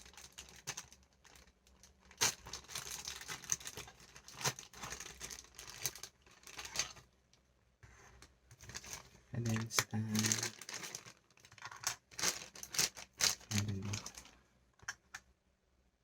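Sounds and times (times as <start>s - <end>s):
plastic wrapper crinkling and tearing: 0.0s - 7.2s, 8.5s - 14.4s.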